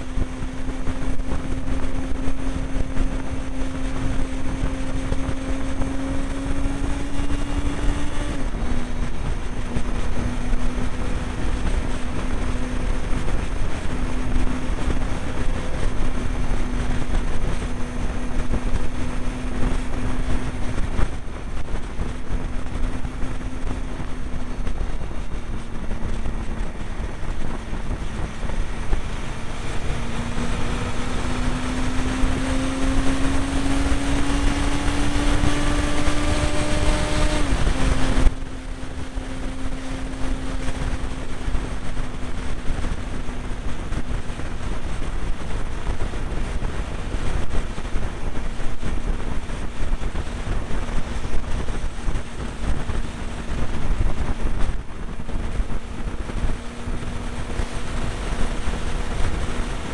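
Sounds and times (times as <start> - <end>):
motorcycle engine: 0.0 - 59.9
wind rushing: 0.0 - 59.9.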